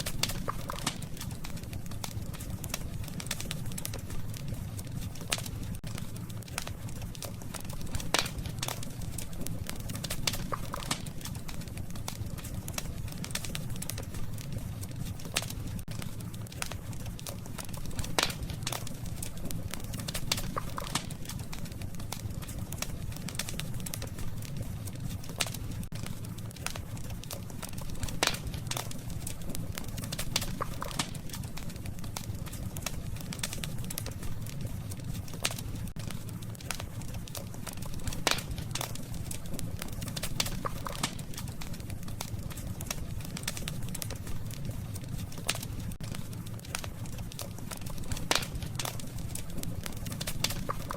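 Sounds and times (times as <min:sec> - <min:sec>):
fire pops and snaps: 0:00.0 - 0:50.9
low rumble of flames: 0:00.0 - 0:50.9
wood fire crackling: 0:00.0 - 0:50.9.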